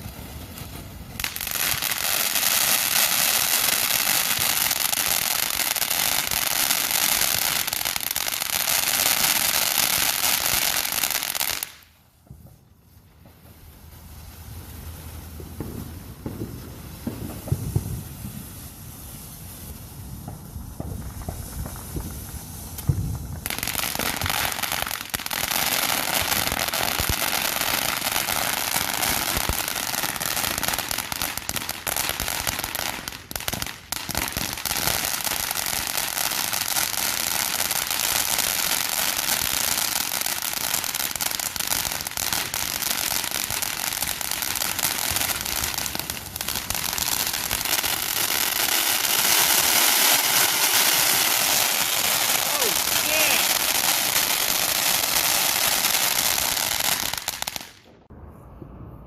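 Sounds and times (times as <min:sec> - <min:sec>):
rapid firecracker crackling: 0:00.0 - 0:58.0
firework booms: 0:00.0 - 0:59.0.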